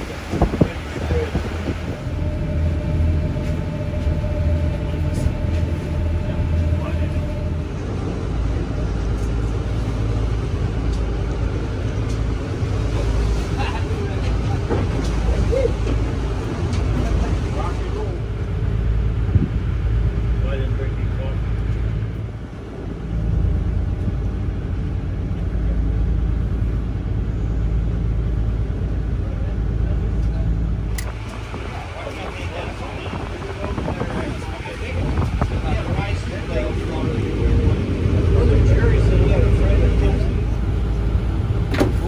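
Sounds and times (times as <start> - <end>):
boat engine rumble: 0.0 - 42.0
wind and water hiss: 0.0 - 42.0.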